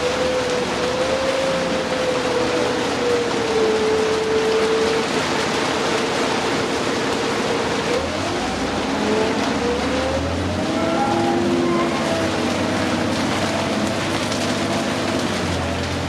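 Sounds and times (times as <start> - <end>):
bus drivetrain whine: 0.0 - 16.0
deep engine rumble: 0.0 - 16.0
heavy rain hiss: 0.0 - 16.0
road noise: 0.0 - 16.0.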